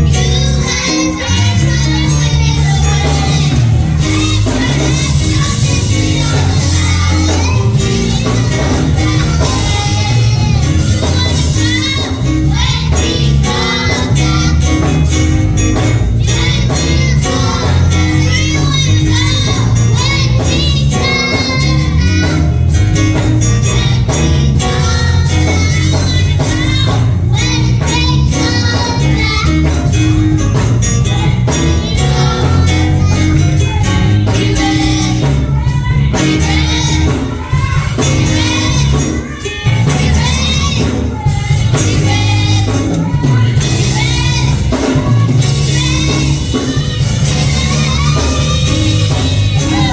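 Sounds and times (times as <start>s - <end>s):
band accompaniment: 0.0s - 49.9s
steady bass line: 0.0s - 49.9s
voices singing gospel song: 0.0s - 49.9s.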